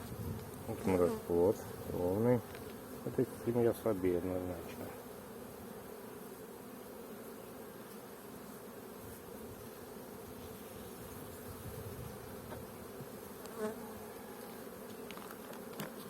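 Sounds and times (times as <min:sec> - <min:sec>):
honeybees humming: 0:00.0 - 0:16.0.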